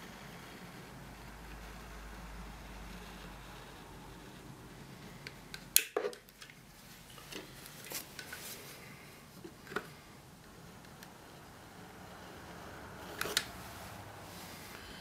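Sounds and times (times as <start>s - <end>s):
faint steady background noise: 0.0s - 15.0s.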